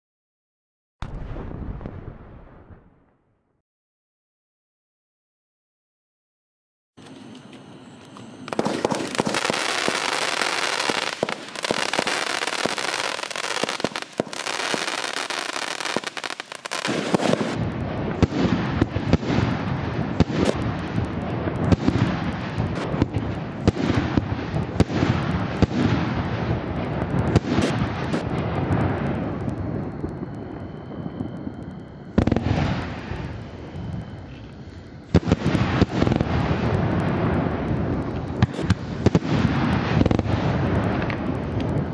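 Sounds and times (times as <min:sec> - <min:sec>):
fireworks battery firing: 0:07.0 - 0:41.9.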